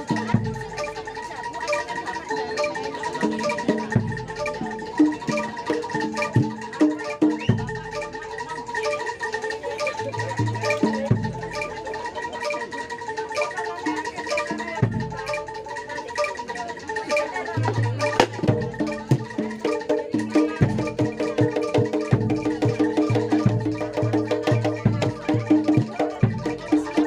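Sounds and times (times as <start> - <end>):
drumming: 0.0 - 27.0
struck metal keyed instruments: 0.0 - 27.0.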